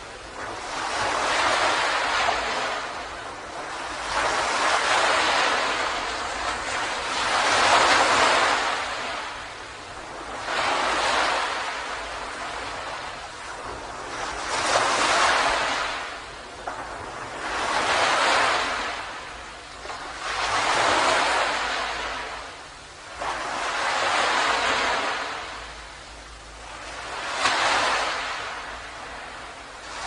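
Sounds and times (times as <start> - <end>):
sea waves breaking on a beach: 0.0 - 30.0.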